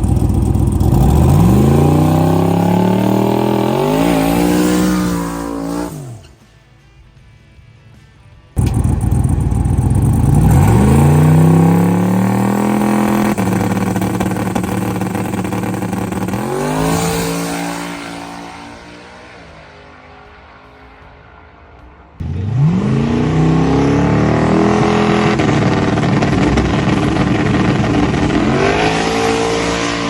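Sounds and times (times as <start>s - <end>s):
drag car accelerating: 0.0s - 6.4s, 8.6s - 30.0s.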